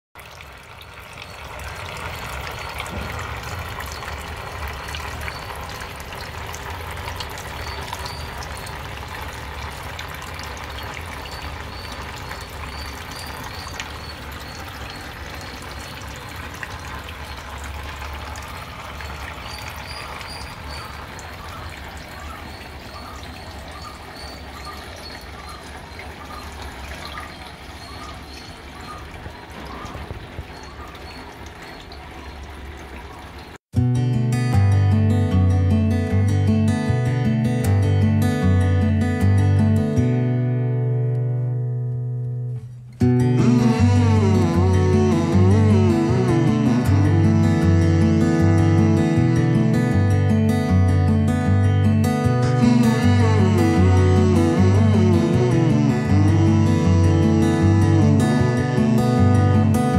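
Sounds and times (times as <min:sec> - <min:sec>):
fountain water bubbling and splashing: 0:00.2 - 0:33.6, 0:43.0 - 0:59.9.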